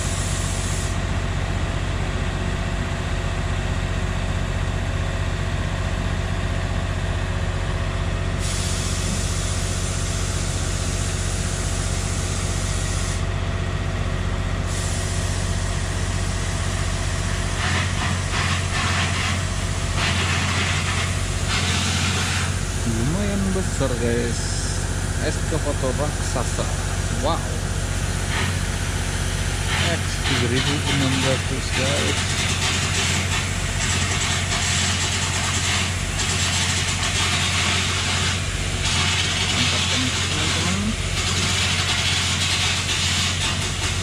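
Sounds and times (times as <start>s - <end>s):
diesel engine humming: 0.0s - 44.0s.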